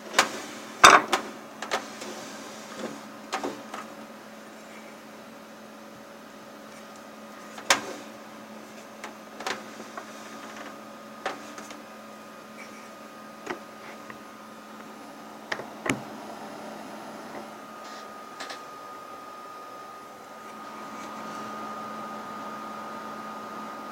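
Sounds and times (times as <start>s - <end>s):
steady electrical hum: 0.0s - 23.9s.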